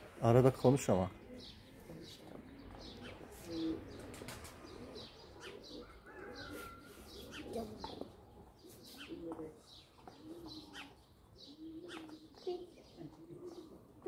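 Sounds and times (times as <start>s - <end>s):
pigeons cooing: 0.0s - 14.0s
small birds chirping: 0.0s - 14.0s.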